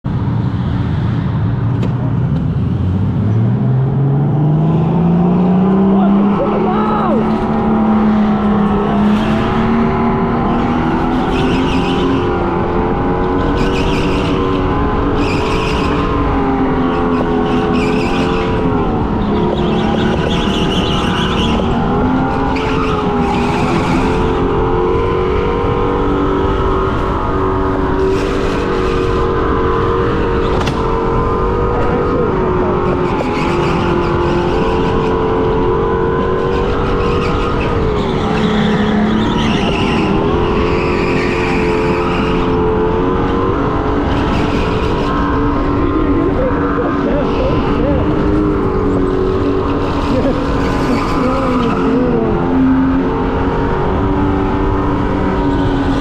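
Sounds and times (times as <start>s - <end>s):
electric go-kart motor whining: 6.4s - 56.0s.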